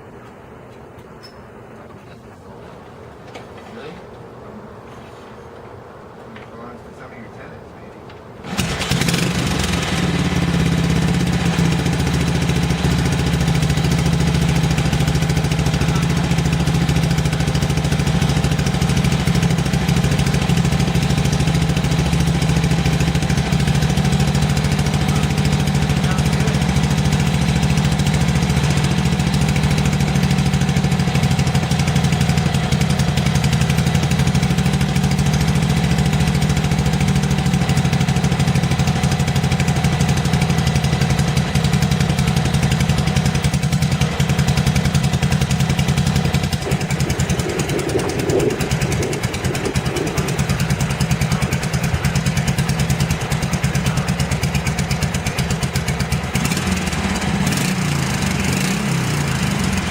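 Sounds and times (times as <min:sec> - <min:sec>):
motorcycle engine running: 0:08.4 - 0:59.9.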